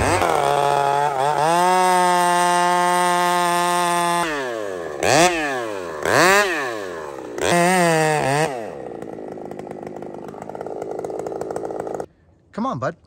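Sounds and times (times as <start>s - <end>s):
chainsaw revving and cutting wood: 0.0s - 12.1s.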